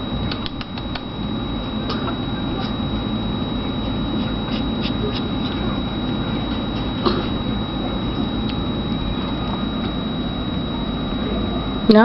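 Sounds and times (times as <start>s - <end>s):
high electronic whine: 0.0s - 12.0s.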